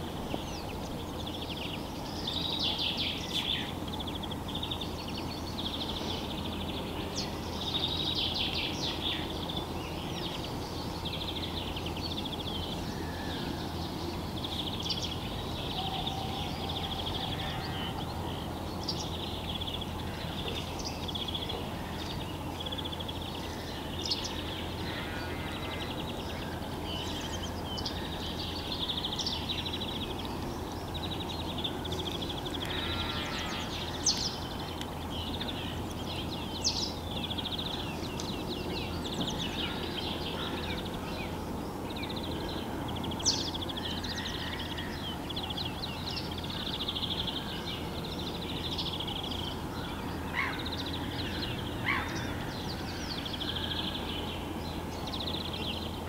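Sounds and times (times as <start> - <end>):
low background noise: 0.0 - 56.0
songbirds singing: 0.0 - 56.0.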